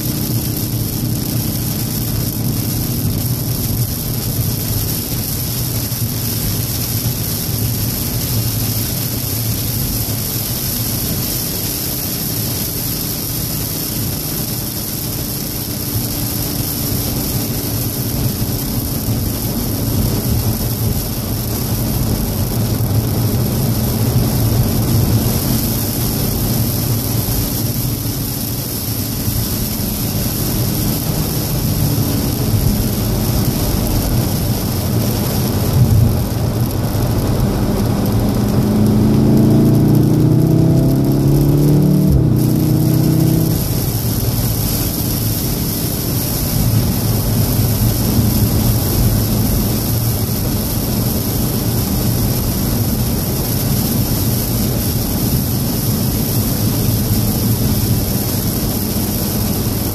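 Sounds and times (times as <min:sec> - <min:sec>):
car engine drone: 0:00.0 - 0:59.9
road noise: 0:00.0 - 0:59.9
water spray and rain hiss: 0:00.0 - 0:59.9.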